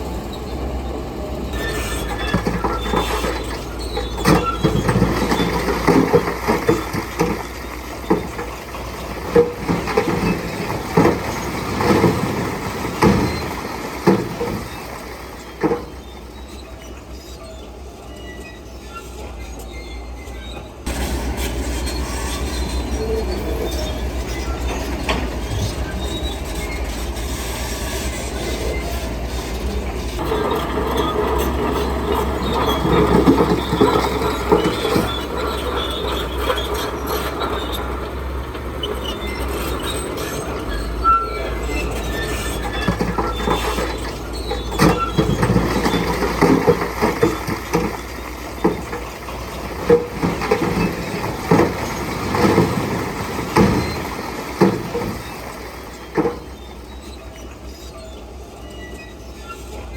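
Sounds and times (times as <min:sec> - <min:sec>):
diesel engine under load: 0:00.0 - 0:59.9
metallic clanking and squealing: 0:01.4 - 0:59.9.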